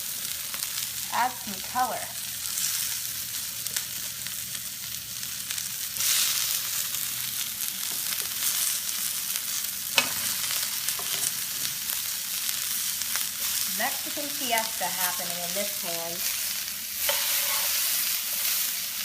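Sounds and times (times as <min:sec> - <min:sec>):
onions and peppers sizzling in pan: 0:00.0 - 0:19.0.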